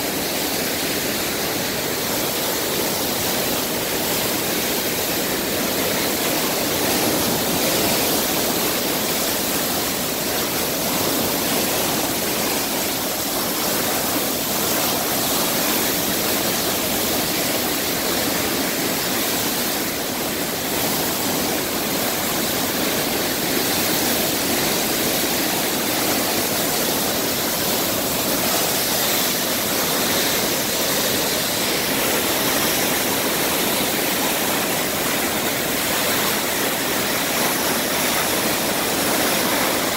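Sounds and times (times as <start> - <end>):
rushing whitewater: 0.0 - 39.9.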